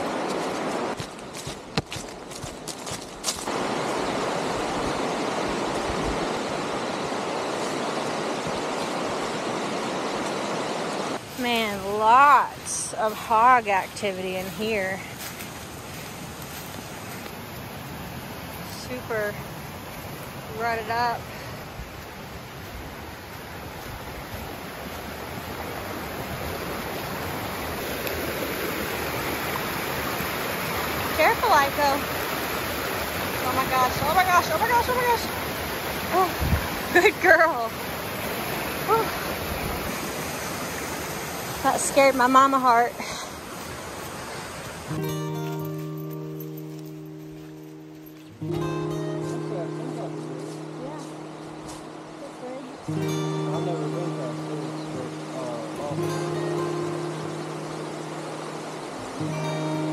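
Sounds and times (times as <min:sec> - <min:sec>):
river rushing over rapids: 0:00.0 - 0:01.7, 0:03.4 - 0:59.9.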